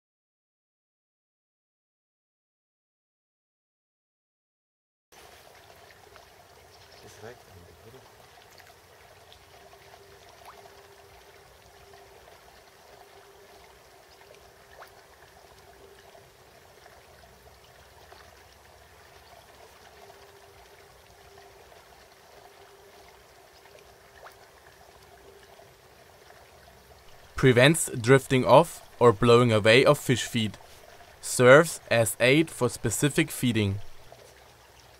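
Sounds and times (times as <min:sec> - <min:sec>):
running water trickling: 0:05.2 - 0:34.9
faint hum: 0:06.1 - 0:34.9.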